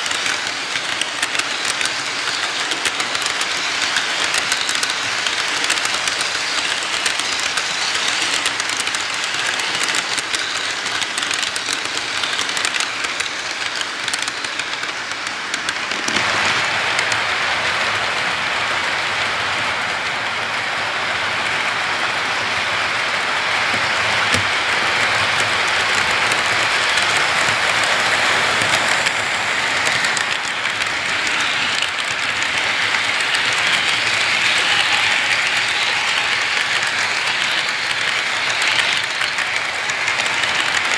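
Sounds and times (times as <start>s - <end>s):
model train wheels clattering: 0.0s - 19.7s, 21.3s - 40.9s.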